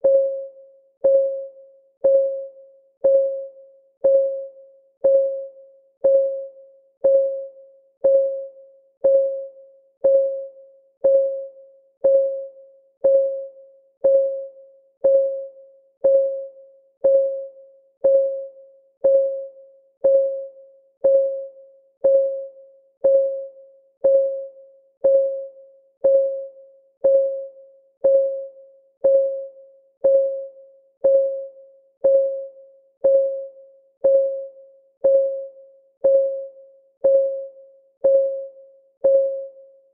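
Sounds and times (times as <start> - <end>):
countdown timer ticking: 2.0 - 2.4, 3.0 - 39.6.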